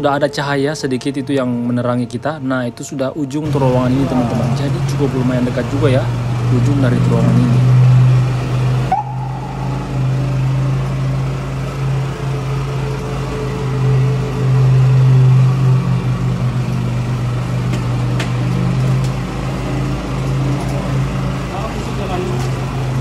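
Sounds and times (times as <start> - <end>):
scooter engine running: 3.4 - 23.0.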